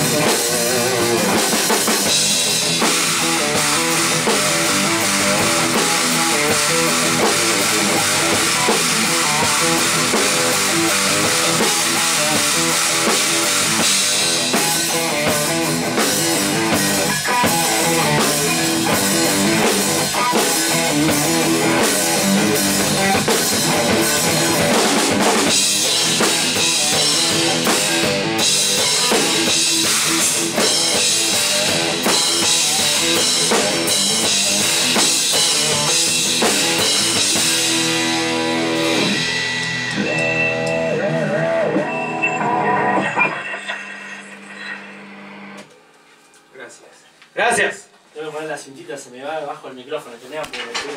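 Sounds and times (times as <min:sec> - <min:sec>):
electric bass: 0:00.0 - 0:43.4
drum kit: 0:00.0 - 0:45.7
electric guitar: 0:00.0 - 0:45.8.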